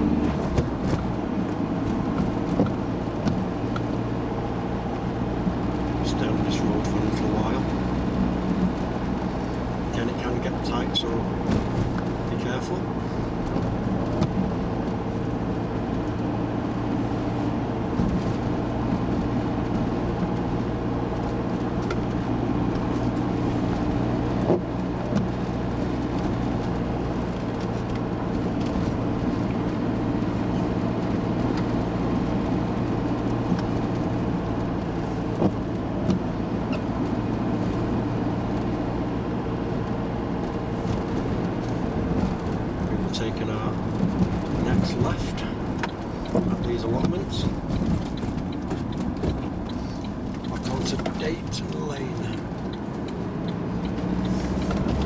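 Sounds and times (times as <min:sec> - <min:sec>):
tyre noise on a wet road: 0:00.0 - 0:55.0
vehicle engine drone: 0:00.0 - 0:55.0.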